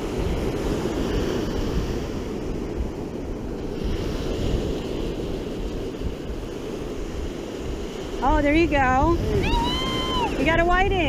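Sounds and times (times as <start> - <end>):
ocean surf washing ashore: 0.0 - 11.0
wind rumbling on microphone: 0.0 - 11.0.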